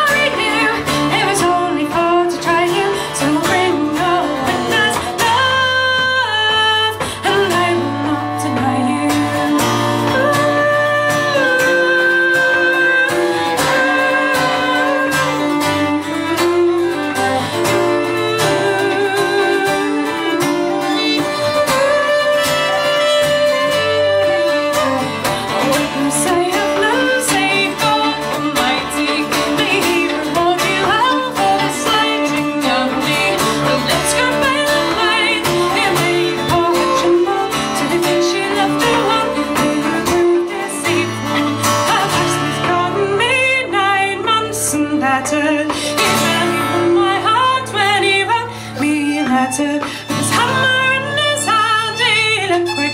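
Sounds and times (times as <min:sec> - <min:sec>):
fiddle melody with vibrato: 0:00.0 - 0:52.9
plucked acoustic guitar: 0:00.0 - 0:52.9.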